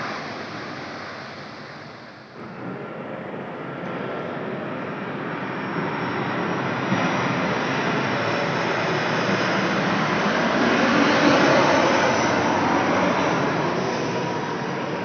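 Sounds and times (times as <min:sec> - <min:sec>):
jet engine roar overhead: 0:00.0 - 0:15.0.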